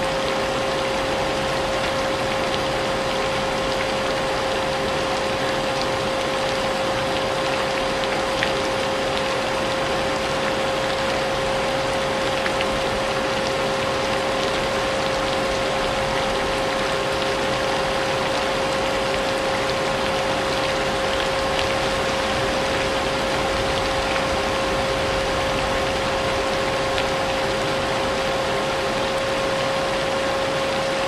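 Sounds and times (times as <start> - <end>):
rain hiss: 0.0 - 31.0.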